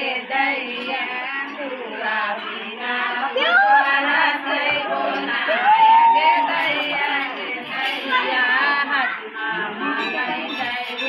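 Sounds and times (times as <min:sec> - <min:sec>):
women and children singing: 0:00.0 - 0:11.0.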